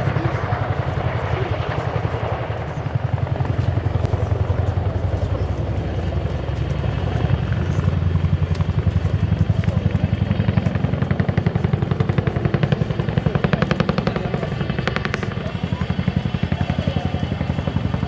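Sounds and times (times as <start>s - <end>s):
deep steady rumble: 0.0s - 18.0s
helicopter rotors beating: 0.0s - 18.0s.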